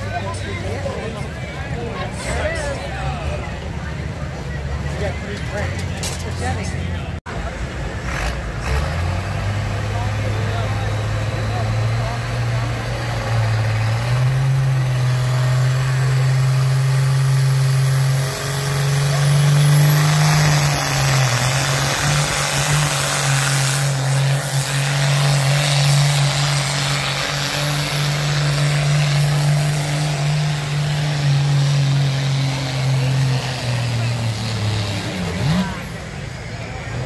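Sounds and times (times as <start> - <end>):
diesel truck engine at high revs: 0.0 - 37.0.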